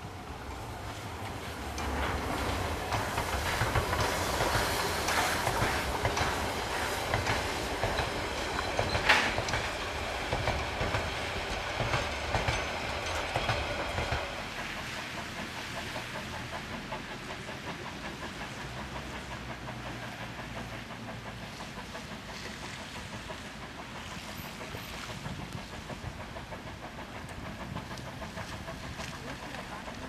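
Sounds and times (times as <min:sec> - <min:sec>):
low rumble of passing carriages: 0:00.0 - 0:30.0
train wheels clicking over rail joints: 0:00.0 - 0:30.0.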